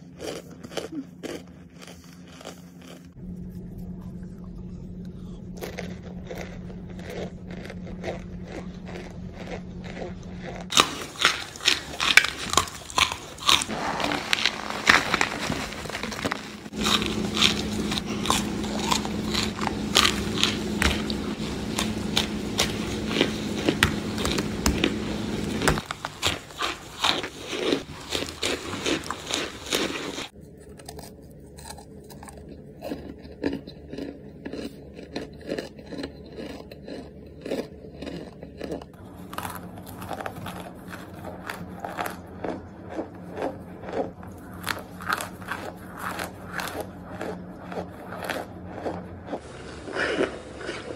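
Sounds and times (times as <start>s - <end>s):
crunching cornstarch chunks: 0.0s - 3.6s, 5.6s - 50.9s.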